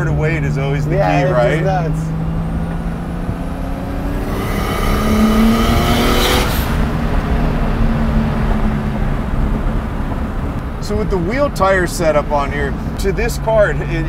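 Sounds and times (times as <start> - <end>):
turbocharged car engine: 0.0 - 14.0.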